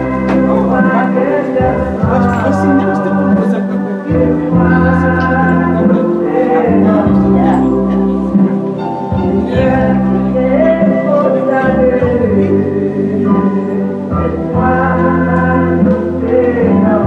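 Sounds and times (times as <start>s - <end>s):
keyboard accompaniment: 0.0s - 17.0s
steady bass line: 0.0s - 17.0s
voices singing gospel: 0.0s - 17.0s.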